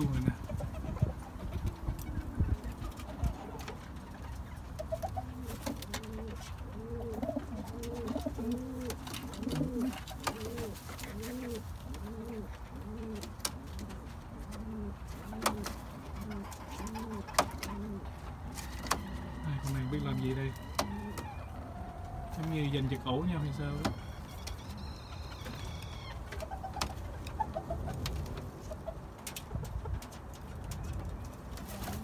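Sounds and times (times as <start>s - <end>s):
pigeon cooing: 0.0s - 29.0s.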